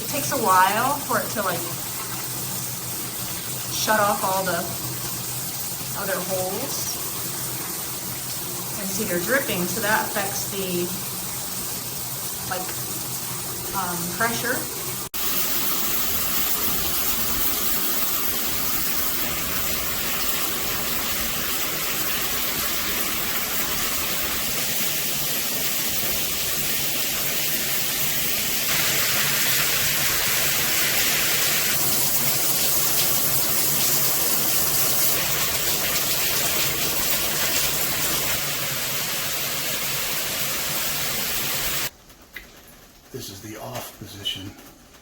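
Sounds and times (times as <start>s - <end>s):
water spraying from shower head: 0.0s - 43.0s.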